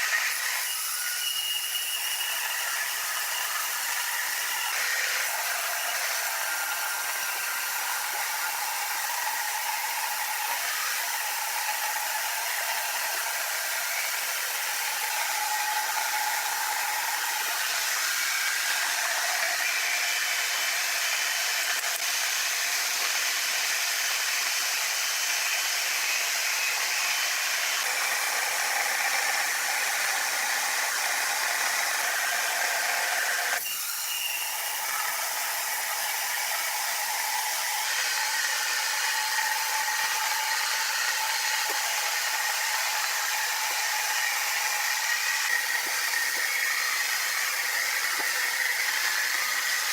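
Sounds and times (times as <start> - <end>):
sawmill machinery hissing: 0.0 - 49.9.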